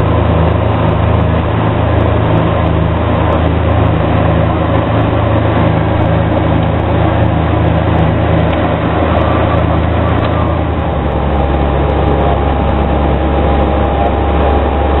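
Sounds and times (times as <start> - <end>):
loud rushing noise: 0.0 - 15.0
propeller hum: 0.0 - 15.0.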